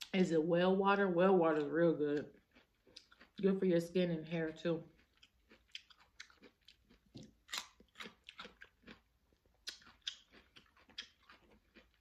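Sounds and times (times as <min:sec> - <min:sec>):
chewing wet crunches: 0:01.5 - 0:12.0.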